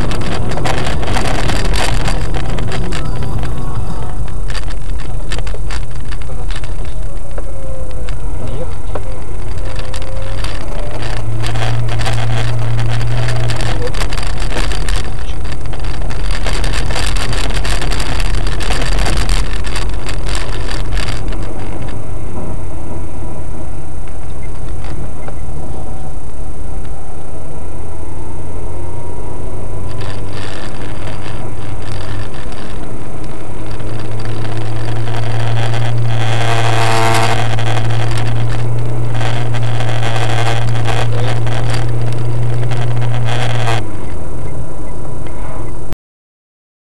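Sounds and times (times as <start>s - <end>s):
car engine and road noise: 0.0s - 46.0s.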